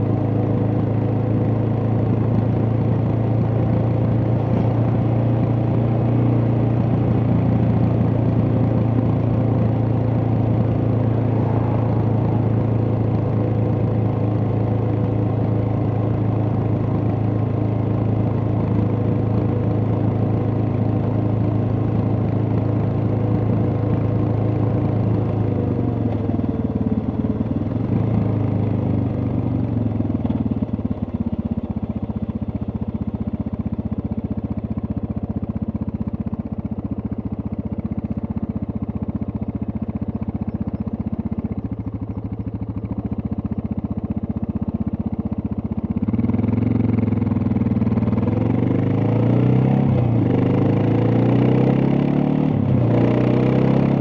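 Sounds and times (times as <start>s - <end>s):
motorcycle engine thumping and revving: 0.0s - 54.0s.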